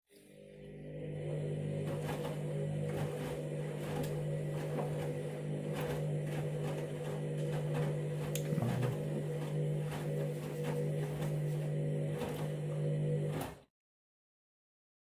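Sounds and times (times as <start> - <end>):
washing machine humming: 0.2 - 13.7.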